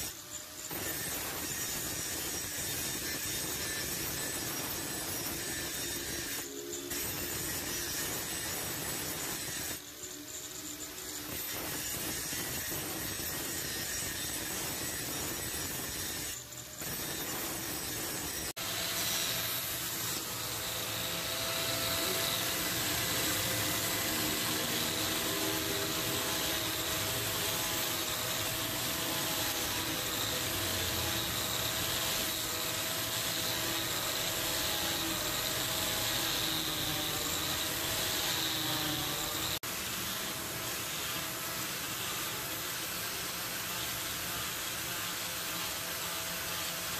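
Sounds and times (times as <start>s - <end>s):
angle grinder grinding steel: 0.0s - 46.9s.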